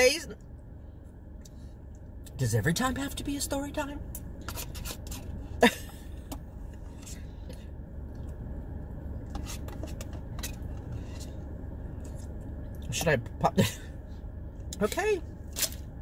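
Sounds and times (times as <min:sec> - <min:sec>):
car engine and air conditioning hum: 0:00.0 - 0:16.0.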